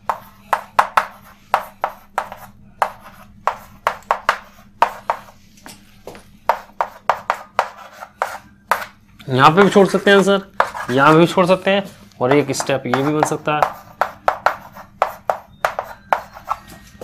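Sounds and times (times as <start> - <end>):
chalk tapping and scratching: 0.0 - 5.5, 6.1 - 9.0, 9.6 - 11.3, 12.3 - 16.8.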